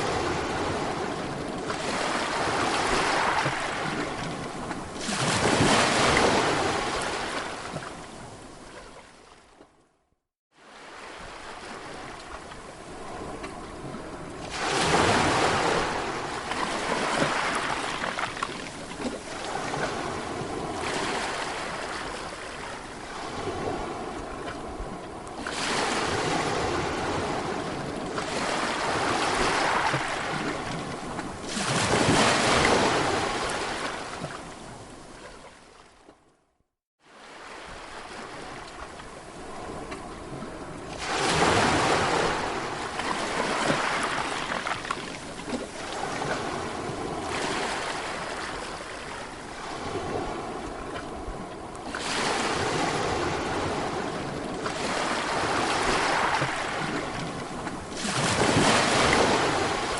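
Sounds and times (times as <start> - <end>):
sea waves breaking on shore: 0.0 - 9.8, 10.5 - 36.2, 37.0 - 59.9.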